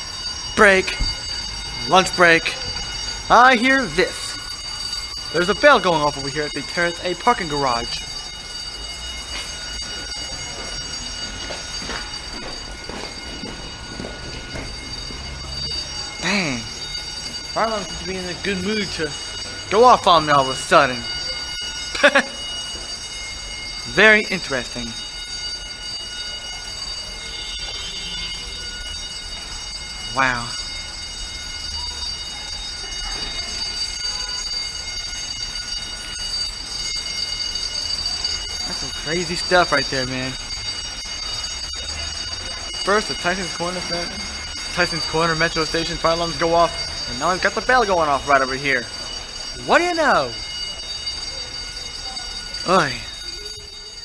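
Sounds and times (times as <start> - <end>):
fire alarm bell ringing: 0.0 - 54.0.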